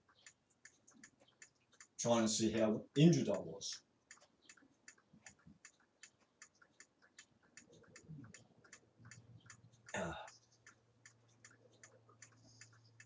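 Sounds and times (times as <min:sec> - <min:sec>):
clock ticking: 0:00.0 - 0:13.0.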